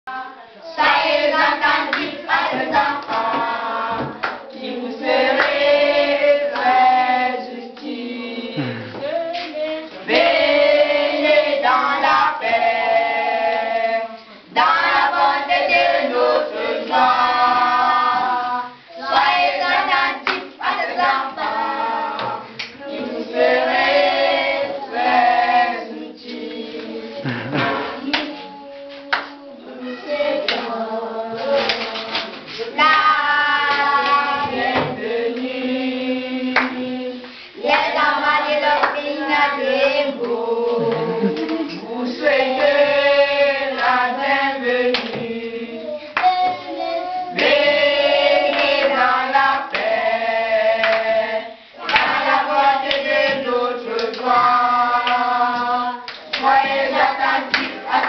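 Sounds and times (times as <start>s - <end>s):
children singing in chorus: 0.1s - 58.0s.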